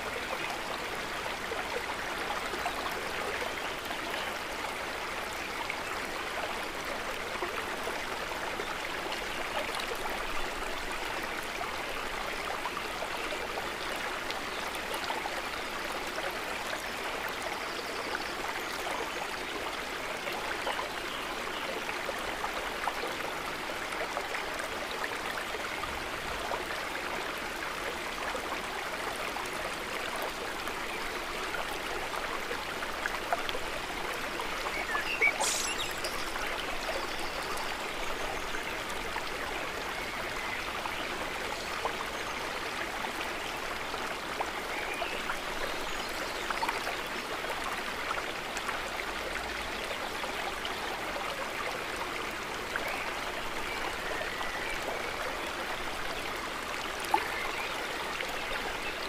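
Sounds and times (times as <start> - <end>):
lake water trickling: 0.0 - 59.0.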